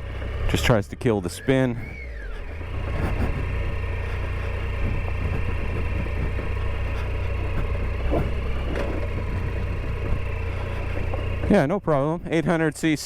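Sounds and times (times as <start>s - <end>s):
motorcycle engine running: 0.0s - 13.0s
small engine knocks: 1.7s - 13.0s.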